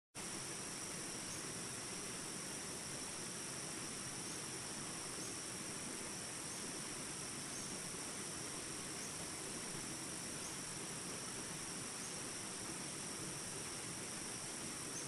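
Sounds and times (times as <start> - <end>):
insects chirping drone: 0.2 - 15.0.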